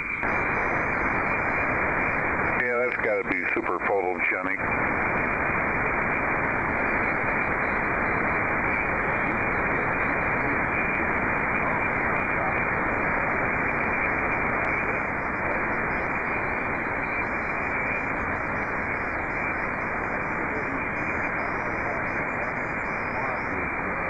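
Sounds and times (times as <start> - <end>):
radio band noise hiss: 0.0 - 24.0.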